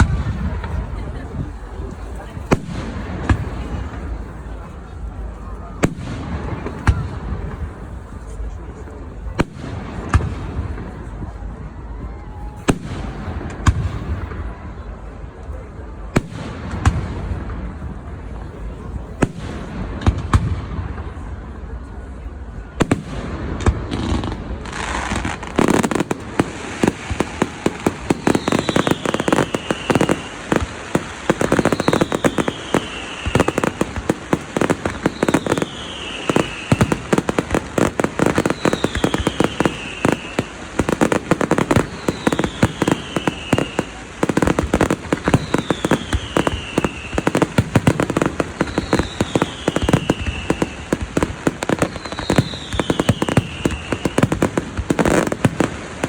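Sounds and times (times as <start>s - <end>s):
fireworks crackling and popping: 0.0s - 21.8s, 22.7s - 56.0s.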